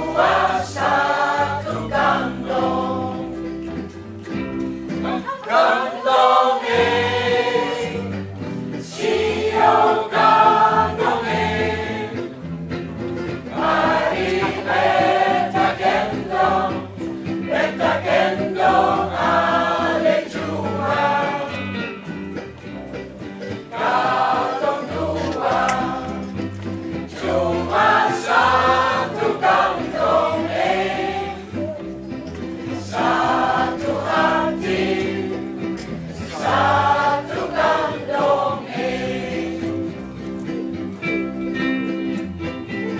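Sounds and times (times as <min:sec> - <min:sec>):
choir singing: 0:00.0 - 0:03.6, 0:05.0 - 0:12.4, 0:13.4 - 0:22.0, 0:23.6 - 0:40.3
small band accompaniment: 0:00.0 - 0:42.9.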